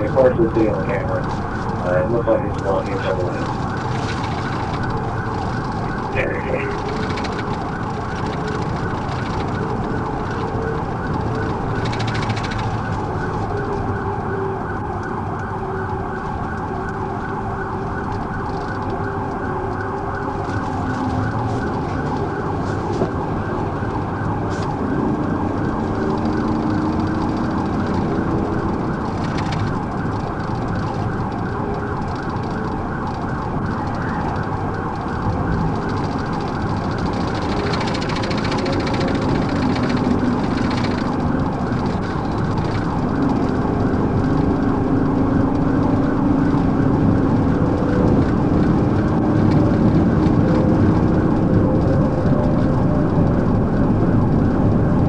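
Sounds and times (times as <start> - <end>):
car engine and tyres on road: 0.0 - 55.0
police siren wailing: 0.0 - 55.0.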